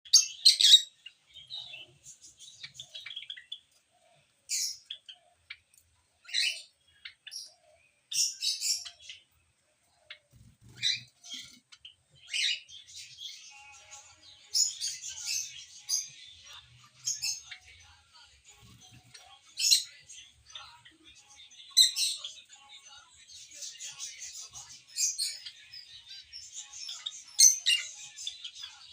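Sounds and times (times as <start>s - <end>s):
small bird chirping: 0.0s - 28.9s.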